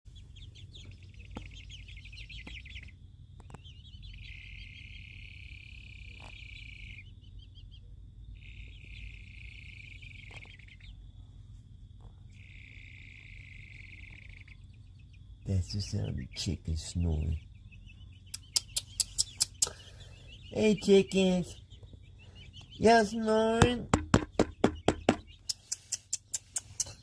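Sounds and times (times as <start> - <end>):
baby chicks peeping and trilling: 0.1 - 27.0.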